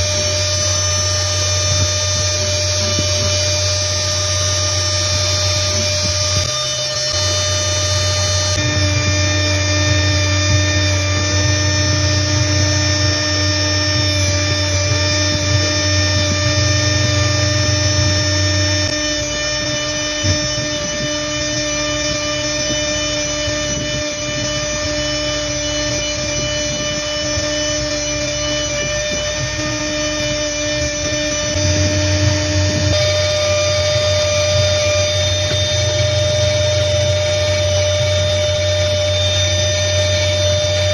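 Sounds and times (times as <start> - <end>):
low hum: 0.0 - 40.9
rotary tool whining: 0.0 - 40.9.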